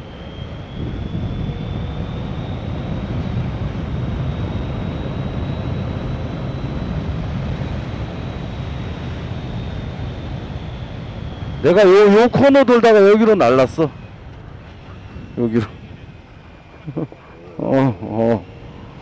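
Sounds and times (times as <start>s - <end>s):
faint high whine: 0.0s - 19.0s
motorcycle engine hum: 0.0s - 19.0s
wind noise: 0.0s - 19.0s.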